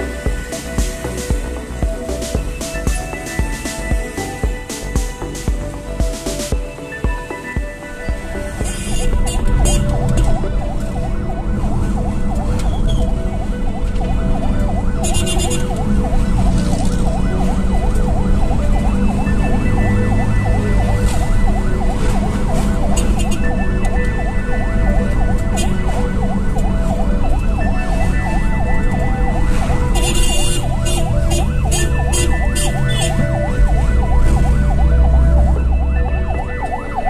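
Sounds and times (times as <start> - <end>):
ambulance siren yelping: 0.0 - 37.0
engine and road noise: 0.0 - 37.0.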